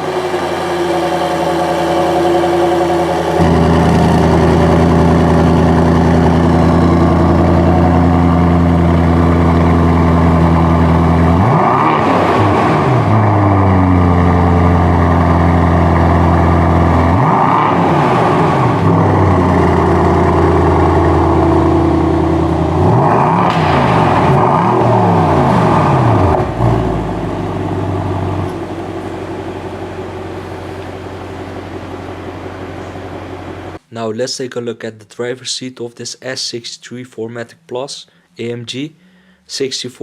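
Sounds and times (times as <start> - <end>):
car engine running: 0.0 - 33.8.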